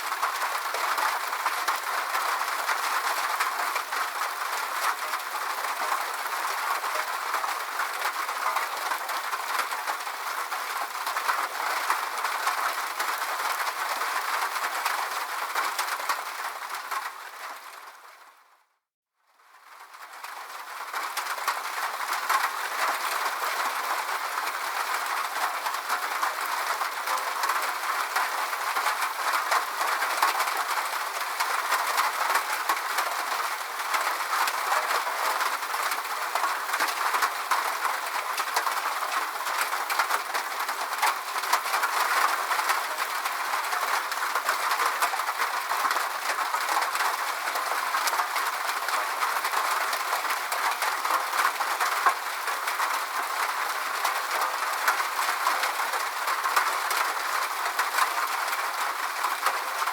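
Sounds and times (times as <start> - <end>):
steady rainfall: 0.0 - 18.6, 19.4 - 59.9.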